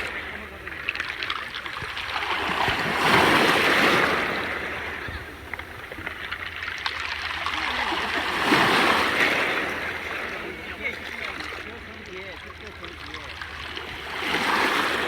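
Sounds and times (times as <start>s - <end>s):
waves washing on pebble beach: 0.0s - 15.0s.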